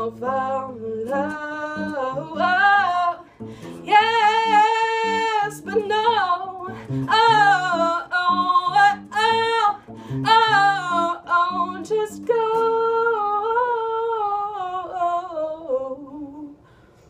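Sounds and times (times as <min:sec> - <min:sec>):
guitar: 0:00.0 - 0:16.2
person singing: 0:00.0 - 0:16.6.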